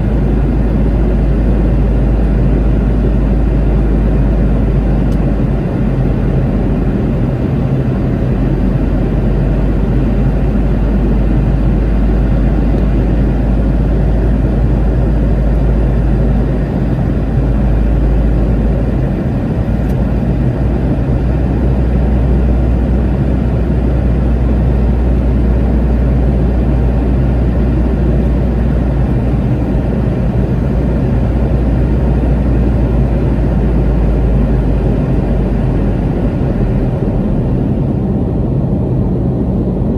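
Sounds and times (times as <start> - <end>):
airflow rumble: 0.0 - 39.9
jet engine drone in cabin: 0.0 - 39.9.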